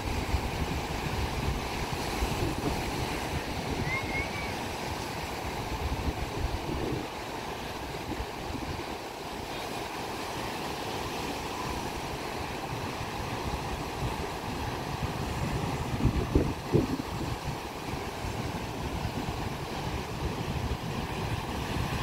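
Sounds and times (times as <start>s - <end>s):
wind buffeting microphone: 0.0s - 9.2s, 11.0s - 22.0s
ocean surf breaking: 0.0s - 22.0s.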